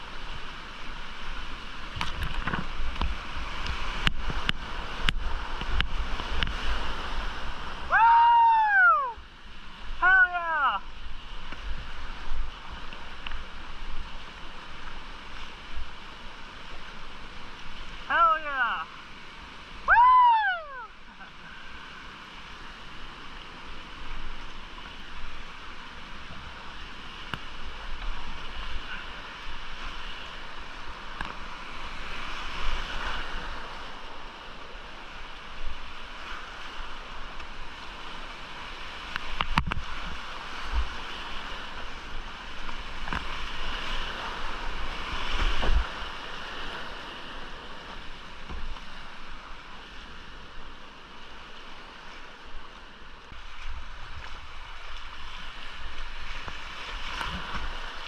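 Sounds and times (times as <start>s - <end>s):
whitewater creek rushing: 0.0s - 58.0s.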